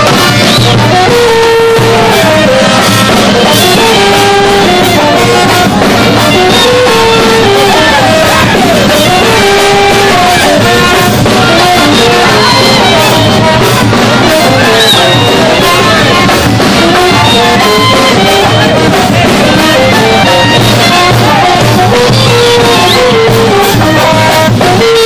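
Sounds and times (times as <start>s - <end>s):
loud music: 0.0s - 25.0s.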